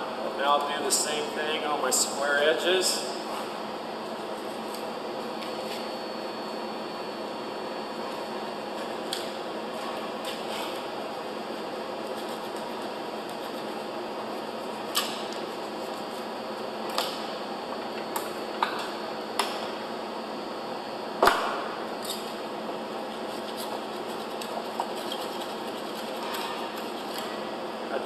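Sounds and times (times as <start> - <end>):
steady shop hum: 0.0 - 28.0.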